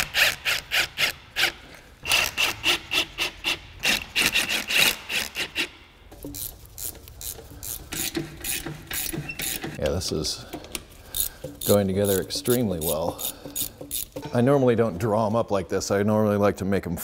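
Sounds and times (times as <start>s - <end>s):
hand ratchet clicking: 0.0s - 14.3s.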